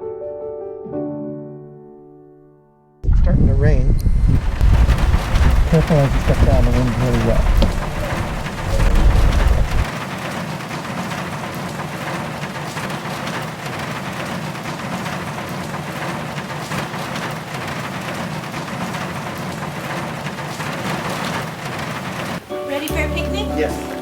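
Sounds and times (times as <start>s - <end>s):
heavy rain falling: 4.2s - 24.0s.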